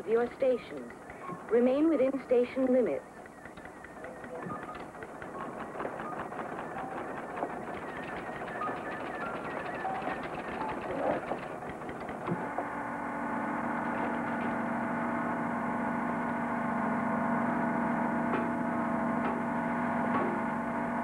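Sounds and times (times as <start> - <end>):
electronic soundtrack hum: 0.0 - 21.0.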